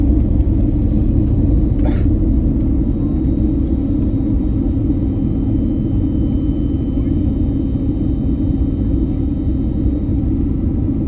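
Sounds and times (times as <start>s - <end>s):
airliner rumbling in flight: 0.0s - 11.0s.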